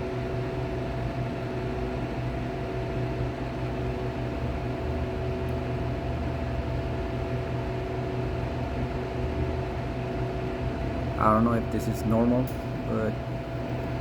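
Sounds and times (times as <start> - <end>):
compressor humming: 0.0 - 14.0.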